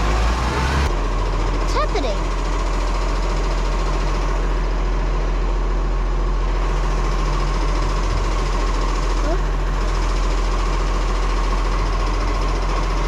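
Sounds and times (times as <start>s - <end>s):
garbage truck engine idling: 0.0s - 13.0s.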